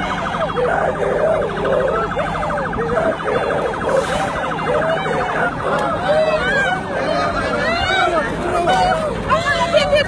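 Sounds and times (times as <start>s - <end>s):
people's voices: 0.0s - 10.0s
siren warbling: 0.0s - 10.0s.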